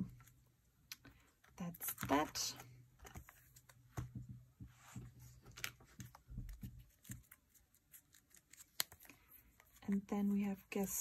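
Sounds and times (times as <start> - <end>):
cards and plastic pages rustling: 0.0 - 11.0.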